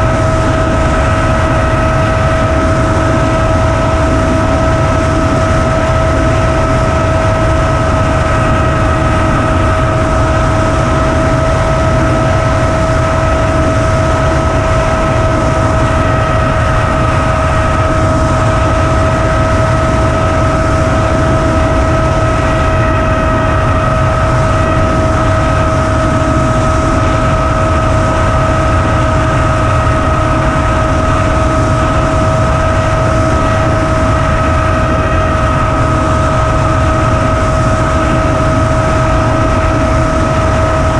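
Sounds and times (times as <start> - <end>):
electric motor and propeller whine: 0.0 - 40.9
wind rush over microphone: 0.0 - 40.9.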